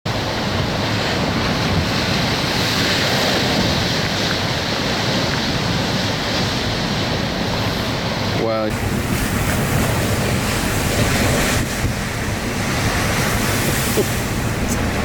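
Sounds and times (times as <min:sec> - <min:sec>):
storm surf pounding shore: 0:00.1 - 0:15.0
wind rushing across microphone: 0:00.1 - 0:15.0.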